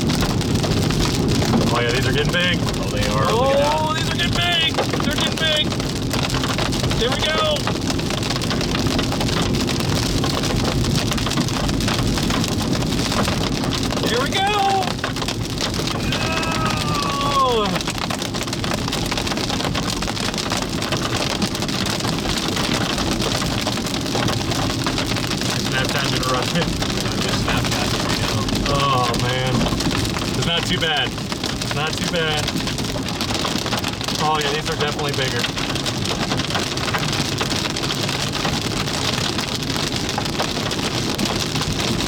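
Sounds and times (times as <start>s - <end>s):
hail pelting a vehicle: 0.0s - 42.0s.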